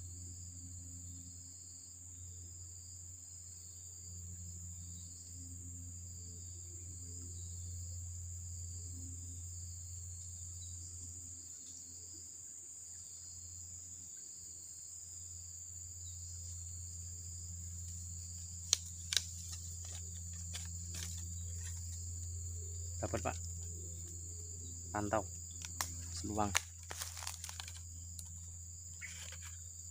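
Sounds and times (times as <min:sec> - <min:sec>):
crickets droning: 0:00.0 - 0:29.9
low steady hum: 0:00.0 - 0:29.9.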